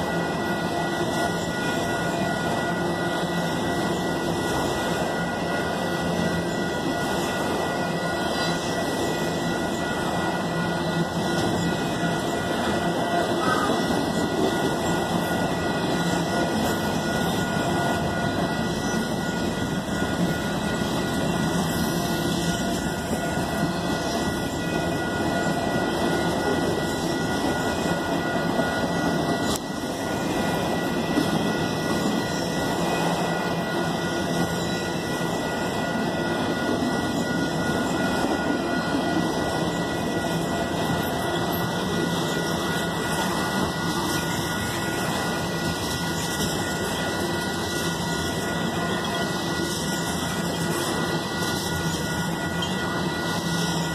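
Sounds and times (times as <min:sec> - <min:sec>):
steel wheels rumbling on rails: 0:00.0 - 0:53.9.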